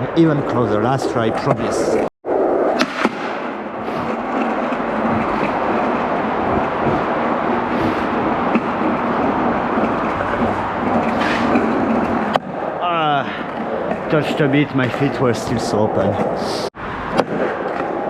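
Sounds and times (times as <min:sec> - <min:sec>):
skateboard wheels rolling on pavement: 0:00.0 - 0:18.0.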